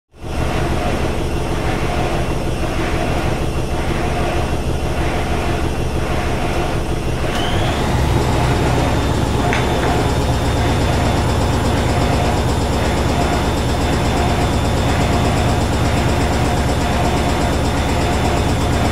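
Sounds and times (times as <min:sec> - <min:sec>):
washing machine spinning: 0:00.2 - 0:18.9
high motor whine: 0:00.5 - 0:18.9.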